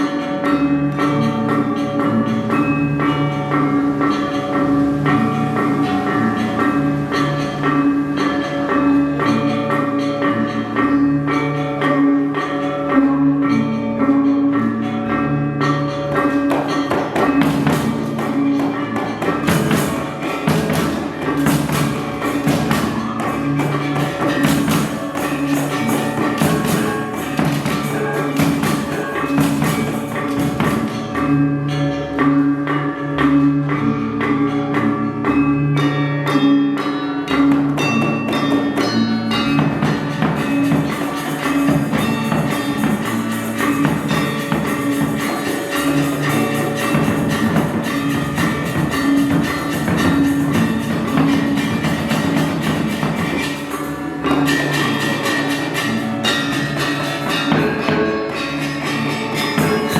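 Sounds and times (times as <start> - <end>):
drumming: 0.0 - 59.9
gamelan metallophones and gongs: 0.0 - 59.9
rapid cymbal strikes: 0.0 - 59.9.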